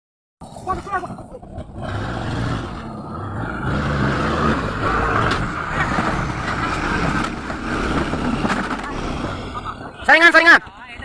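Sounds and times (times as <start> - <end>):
motor vehicle rumble: 0.4 - 10.2.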